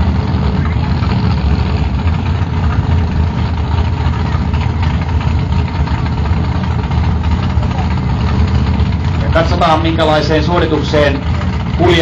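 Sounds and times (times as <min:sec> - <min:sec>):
racing car engines idling: 0:00.0 - 0:12.0.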